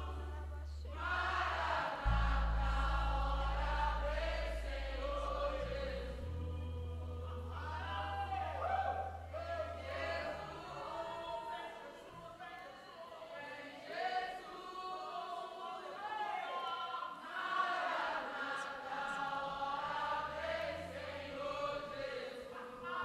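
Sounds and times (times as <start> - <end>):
group singing long held notes: 0.0 - 23.0.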